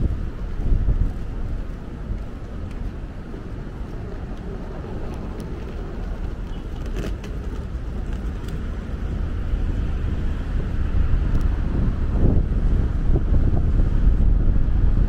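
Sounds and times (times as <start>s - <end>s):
road traffic rumble: 0.0s - 15.0s
wind buffeting microphone: 0.0s - 15.0s.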